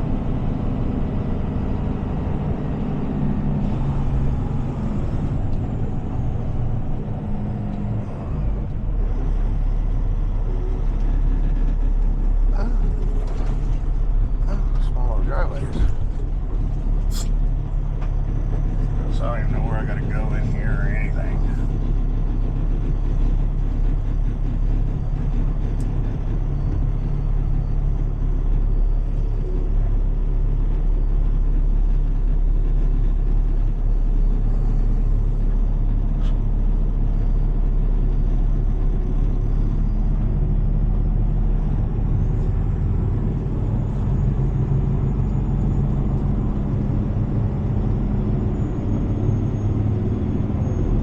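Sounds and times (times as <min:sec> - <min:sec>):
truck diesel engine running: 0:00.0 - 0:51.0.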